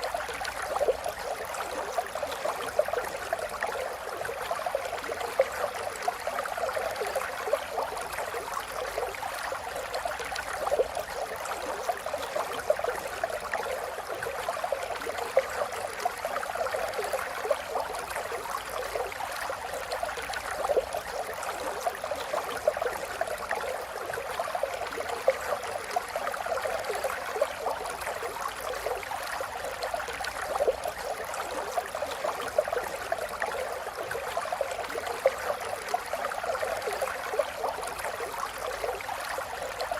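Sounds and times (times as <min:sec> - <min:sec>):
river water babbling over stones: 0:00.0 - 0:39.9.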